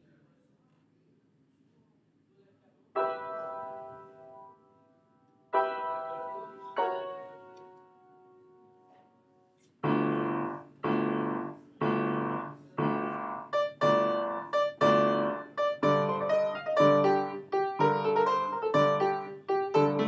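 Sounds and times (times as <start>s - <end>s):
piano chords: 3.0s - 20.0s.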